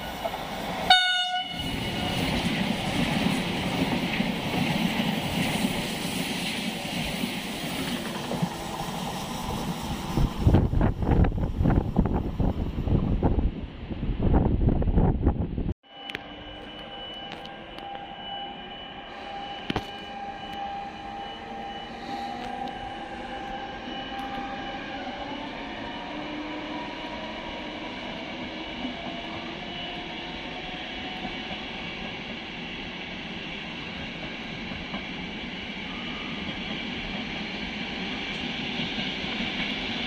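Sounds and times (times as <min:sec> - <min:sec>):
electric train running with whine: 0:00.0 - 0:13.4, 0:15.9 - 0:40.0.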